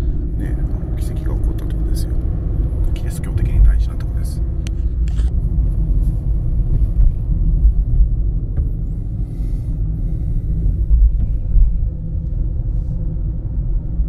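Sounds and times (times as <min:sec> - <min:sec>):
low road rumble in car: 0:00.0 - 0:14.0.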